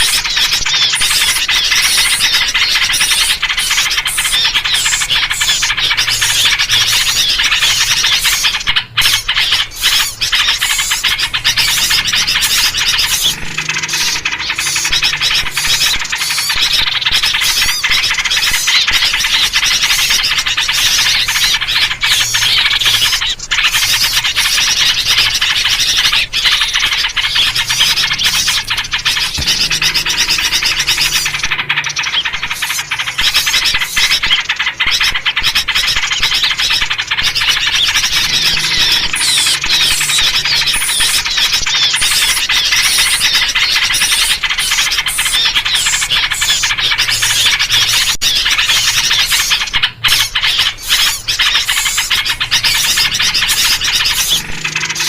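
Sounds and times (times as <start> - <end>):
bulbul calls: 0.0 - 55.0
chorus of songbirds chattering: 0.0 - 55.0.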